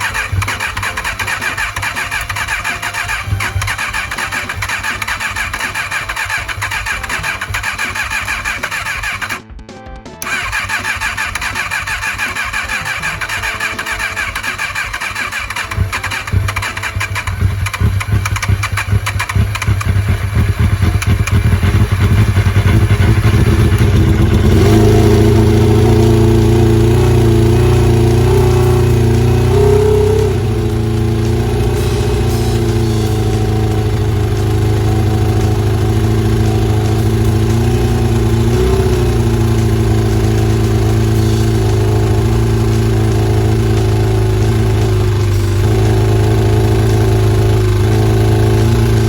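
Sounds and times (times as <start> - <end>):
motorcycle engine cranking and starting: 0.0 - 9.6, 10.2 - 49.0.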